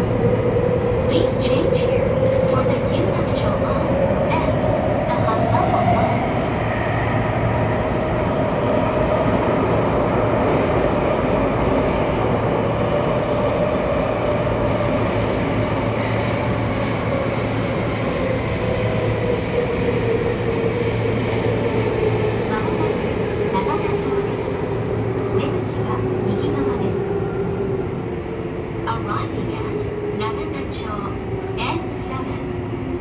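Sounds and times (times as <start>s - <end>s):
train running through tunnel: 0.0s - 33.0s.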